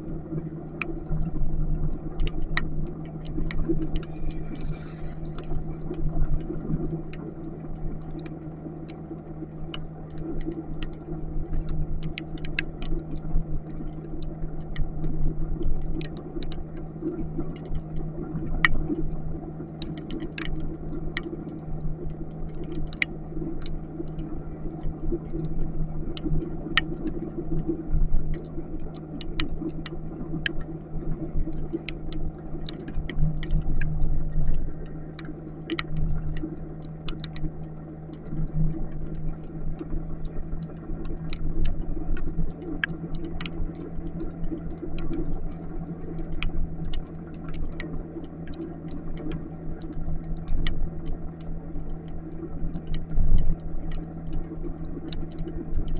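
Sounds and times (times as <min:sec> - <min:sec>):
raindrops ticking on camera: 0:00.3 - 0:55.9.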